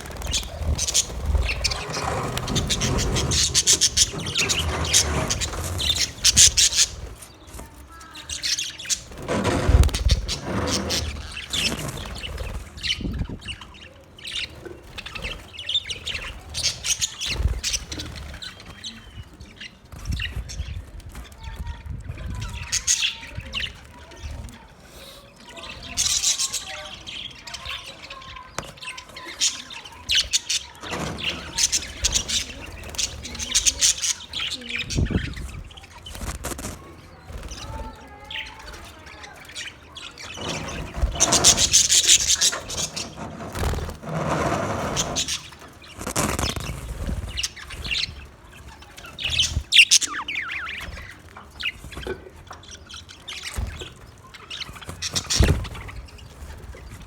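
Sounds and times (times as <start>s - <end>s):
small parrots chirping and chattering: 0.0s - 57.0s.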